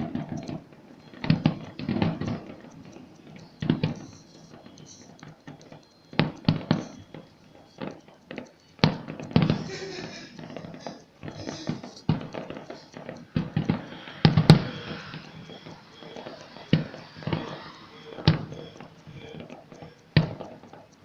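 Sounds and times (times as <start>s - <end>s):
fireworks bangs: 0.0s - 20.9s
fireworks crackling: 0.0s - 21.0s.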